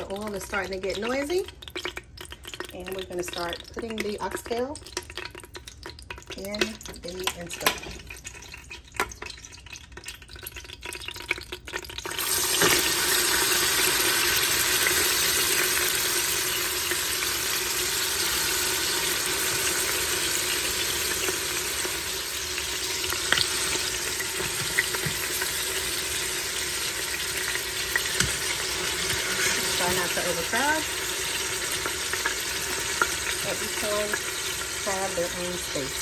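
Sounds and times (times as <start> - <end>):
meat sizzling in hot oil: 0.0 - 36.0.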